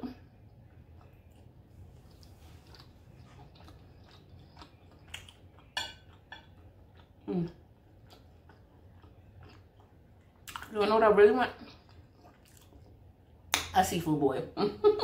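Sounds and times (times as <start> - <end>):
person chewing noodles: 0.0 - 10.7, 11.6 - 13.5.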